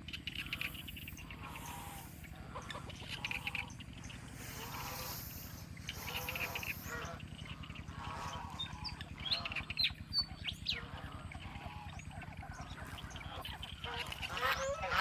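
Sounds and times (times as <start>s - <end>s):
ducks quacking: 0.0s - 15.0s
steady low hum: 0.0s - 15.0s.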